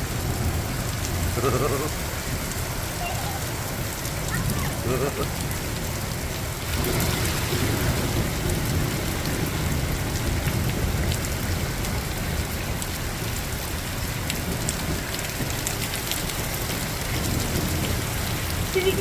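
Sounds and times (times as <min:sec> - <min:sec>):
heavy rain pouring: 0:00.0 - 0:19.0
raindrops ticking: 0:00.1 - 0:19.0.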